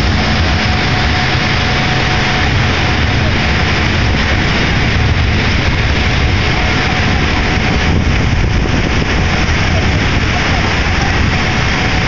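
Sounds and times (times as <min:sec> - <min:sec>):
hull rushing through ice: 0:00.0 - 0:12.0
ship engines low rumble: 0:00.0 - 0:12.0.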